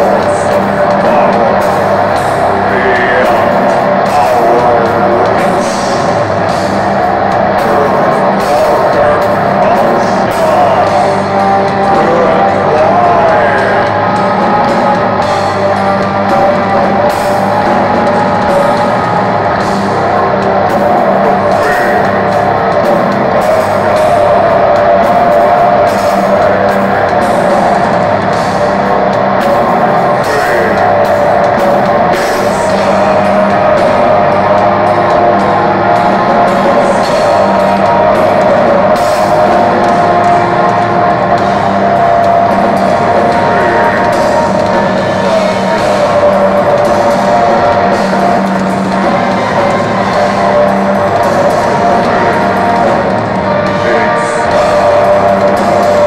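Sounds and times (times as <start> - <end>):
metal band playing live: 0.0 - 56.0.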